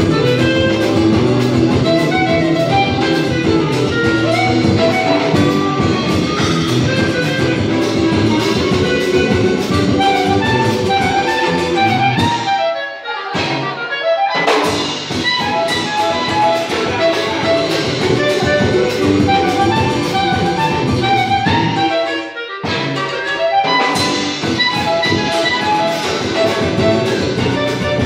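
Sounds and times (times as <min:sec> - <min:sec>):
drum kit: 0:00.0 - 0:12.7, 0:13.4 - 0:28.0
clarinet melody: 0:00.0 - 0:28.0
guitar: 0:00.0 - 0:28.0.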